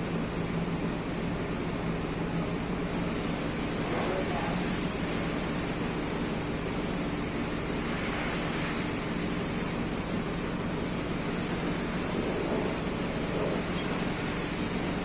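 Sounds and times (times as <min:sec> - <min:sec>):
continuous rushing hiss: 0:00.0 - 0:15.0.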